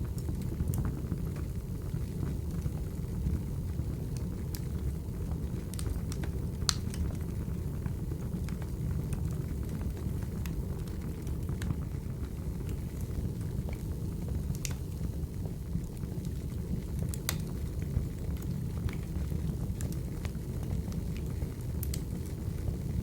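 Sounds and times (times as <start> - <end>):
fire flames rumbling: 0.0 - 23.0
logs crackling and popping: 0.1 - 23.0.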